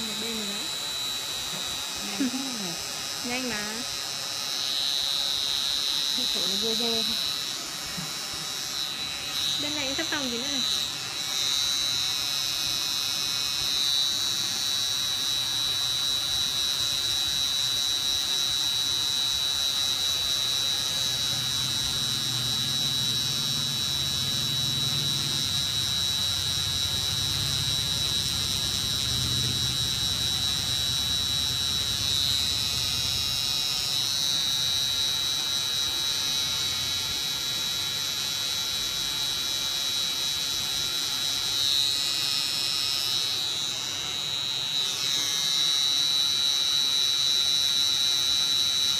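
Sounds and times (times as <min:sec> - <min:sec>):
tattoo machine whining: 0:00.0 - 0:48.9.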